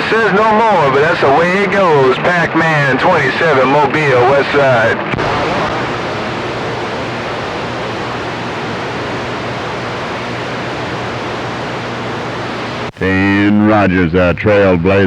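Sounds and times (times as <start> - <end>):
radio static hiss: 0.0 - 13.8.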